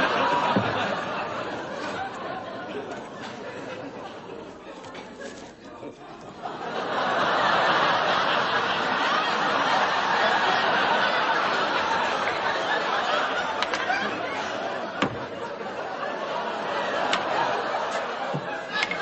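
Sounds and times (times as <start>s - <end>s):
studio audience laughing: 0.0s - 19.0s.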